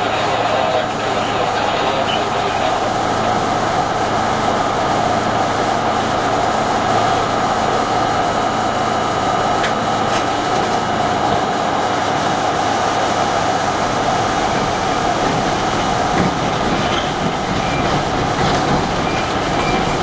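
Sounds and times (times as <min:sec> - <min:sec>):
subway car equipment hum: 0:00.0 - 0:20.0.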